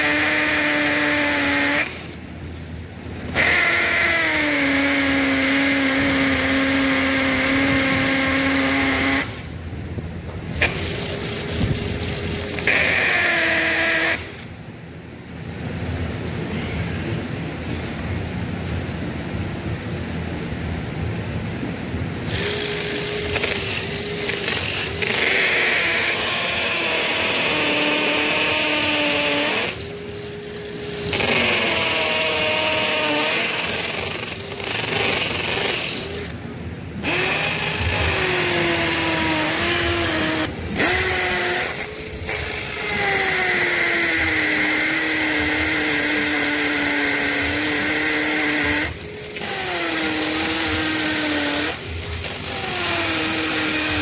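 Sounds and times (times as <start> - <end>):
drill boring into concrete: 0.0 - 2.2, 3.3 - 9.5, 10.6 - 14.5, 22.3 - 36.4, 37.0 - 54.0.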